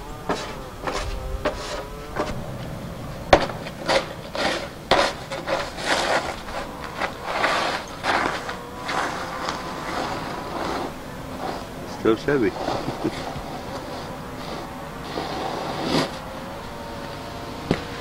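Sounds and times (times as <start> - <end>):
snow shovel scraping: 0.0 - 2.4, 3.3 - 18.0.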